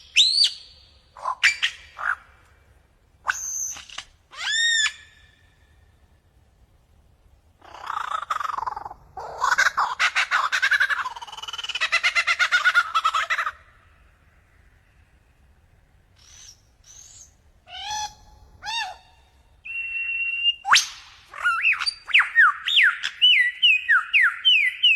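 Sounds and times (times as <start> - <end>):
lyrebird singing: 0.0 - 2.6, 3.2 - 5.8, 7.6 - 24.9.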